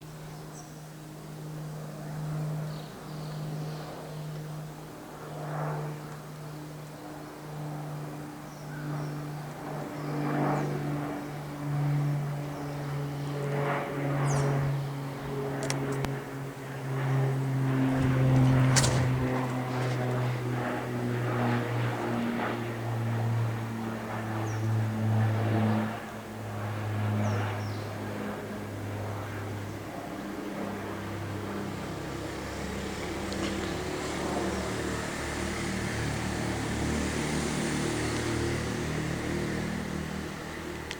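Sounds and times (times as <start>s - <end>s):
propeller airplane droning overhead: 0.0s - 40.9s.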